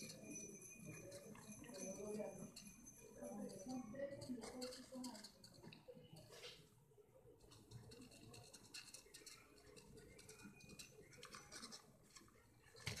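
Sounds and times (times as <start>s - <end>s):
wooden maze board scratching: 0.0s - 13.0s.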